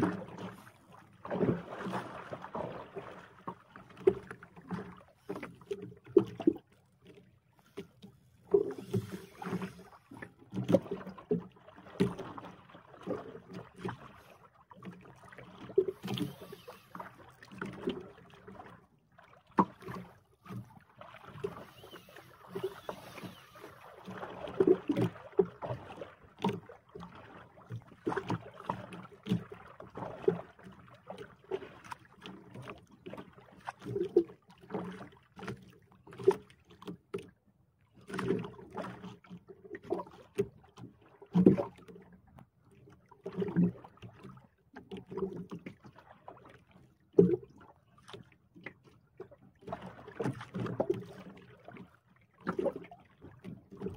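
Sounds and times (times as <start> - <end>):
water slapping against boat hull: 0.0 - 37.3, 38.0 - 53.9.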